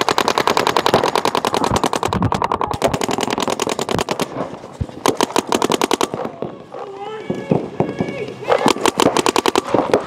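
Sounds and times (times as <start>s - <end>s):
paintball markers firing: 0.0s - 6.5s, 7.4s - 10.0s.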